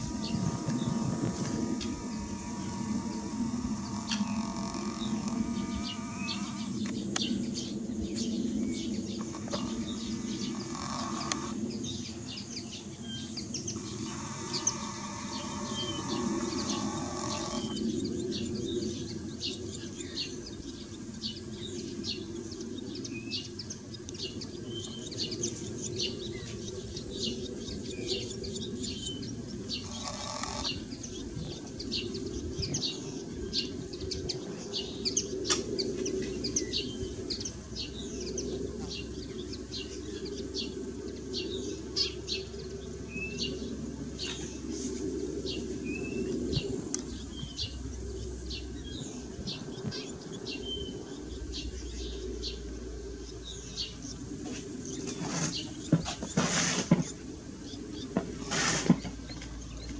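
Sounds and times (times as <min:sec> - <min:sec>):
low background hum: 0:00.0 - 0:59.9
small birds chirping: 0:00.0 - 0:59.9.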